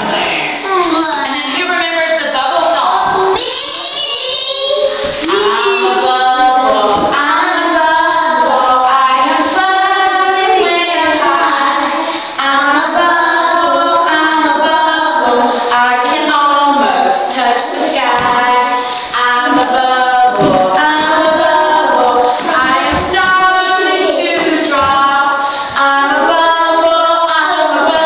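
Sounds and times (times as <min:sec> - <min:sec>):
woman and children singing: 0:00.0 - 0:28.0.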